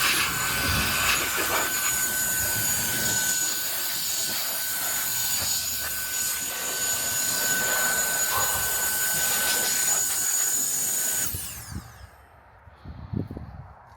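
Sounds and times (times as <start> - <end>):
electric air duster blowing: 0.0 - 12.3.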